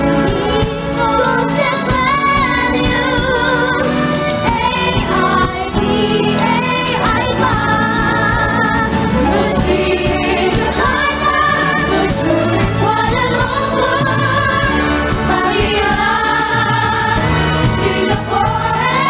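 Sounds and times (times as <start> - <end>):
instrumental backing music: 0.0 - 19.0
children singing into microphones: 0.3 - 19.0.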